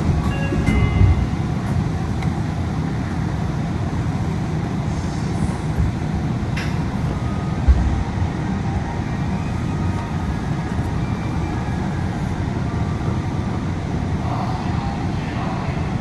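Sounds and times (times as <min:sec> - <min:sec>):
air-conditioning noise: 0:00.0 - 0:16.0
monorail rumble: 0:00.0 - 0:16.0.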